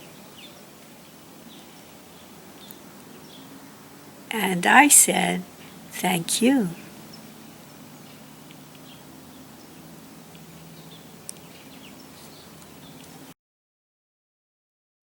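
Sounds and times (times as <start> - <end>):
songbirds chirping faintly: 0.0 - 13.3
outdoor background noise: 0.0 - 13.4.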